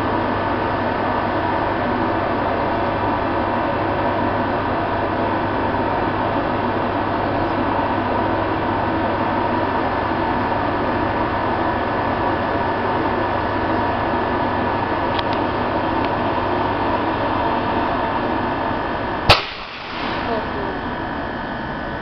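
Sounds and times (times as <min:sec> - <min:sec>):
electric train locomotive humming: 0:00.0 - 0:22.0.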